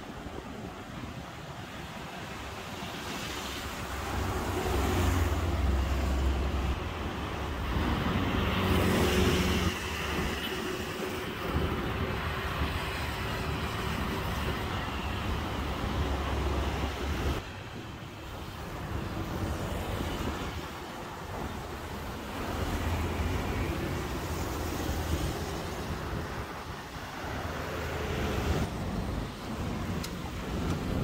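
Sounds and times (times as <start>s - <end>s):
rumble of passing vehicles: 0.2s - 31.0s.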